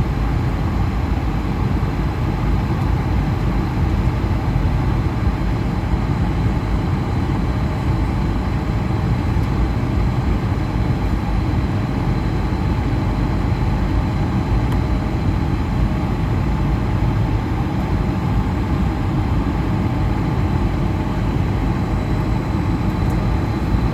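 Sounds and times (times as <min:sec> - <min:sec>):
faint high engine whine: 0:00.0 - 0:23.9.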